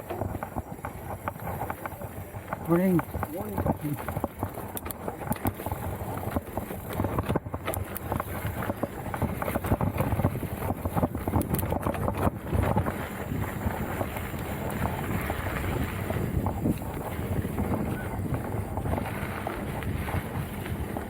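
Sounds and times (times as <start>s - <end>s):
bike rattles and knocks: 0.0s - 21.0s
wind buffeting microphone: 0.0s - 21.0s.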